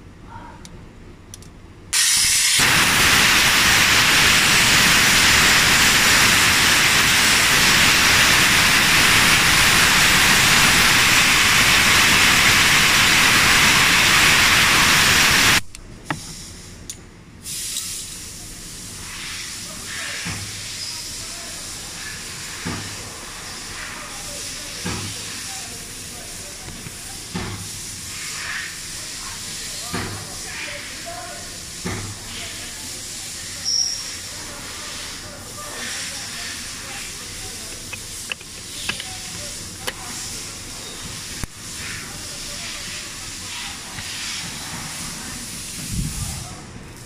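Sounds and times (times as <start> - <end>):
pressurized spray hissing: 2.0 - 15.6, 19.0 - 46.5.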